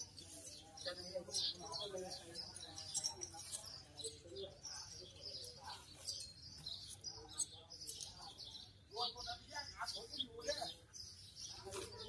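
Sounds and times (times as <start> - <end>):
faint voices murmuring: 0.0 - 12.0
small birds chirping: 0.0 - 12.0.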